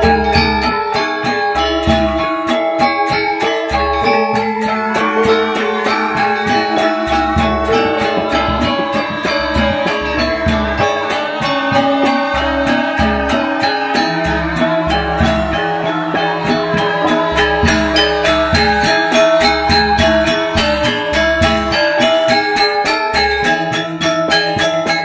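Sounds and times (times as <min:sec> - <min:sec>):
bamboo flutes: 0:00.0 - 0:25.0
bronze metallophones: 0:00.0 - 0:25.0
hand drums: 0:00.0 - 0:25.0.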